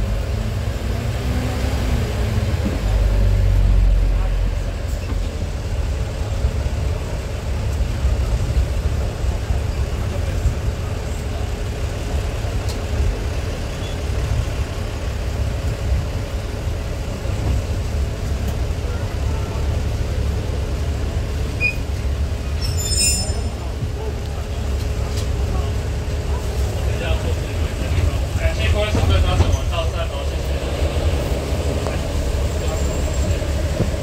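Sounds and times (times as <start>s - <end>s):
diesel railcar engine rumbling: 0.0s - 34.0s.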